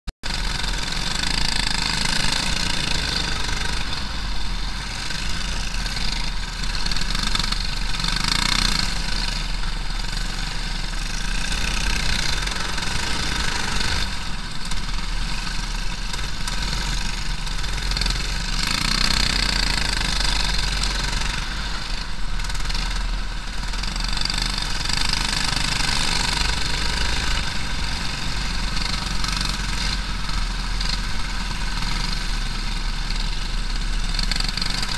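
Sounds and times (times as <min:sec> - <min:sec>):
kart engines running hard: 0:00.2 - 0:34.9.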